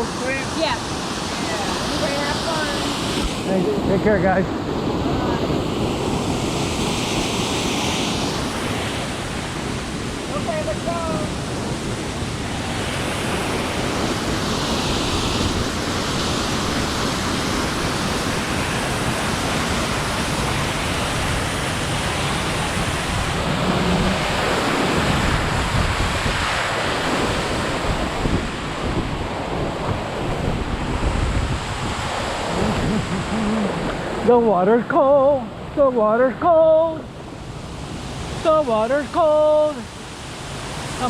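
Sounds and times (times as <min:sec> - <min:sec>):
wind buffeting microphone: 0:00.0 - 0:35.8
waterfall rushing: 0:00.0 - 0:41.0.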